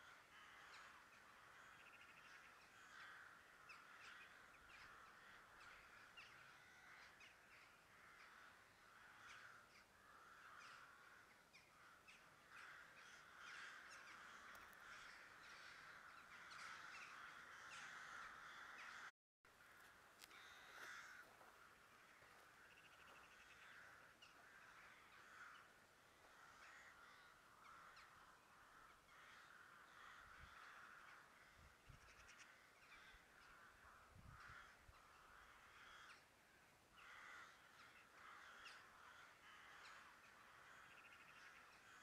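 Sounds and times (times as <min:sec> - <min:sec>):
faint harsh cawing calls: 0:00.0 - 0:42.0.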